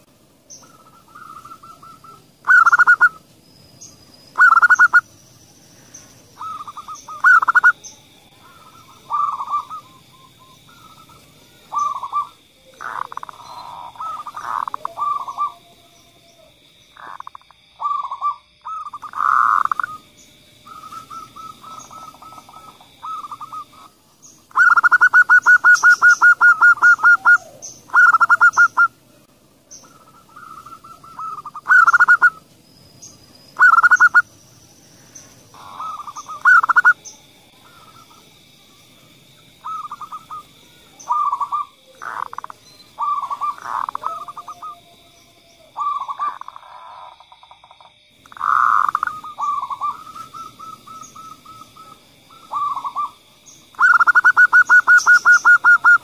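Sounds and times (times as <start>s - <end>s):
doves cooing: 0.0s - 3.3s, 4.3s - 5.1s, 5.7s - 29.1s, 29.7s - 32.5s, 33.6s - 34.4s, 35.0s - 56.0s.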